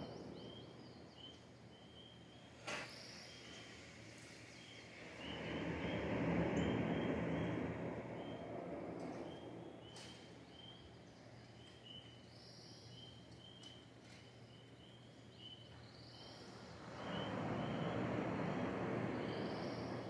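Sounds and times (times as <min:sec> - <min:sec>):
bird chirping: 0:00.0 - 0:03.8, 0:04.5 - 0:20.0
low background rush: 0:00.0 - 0:20.0.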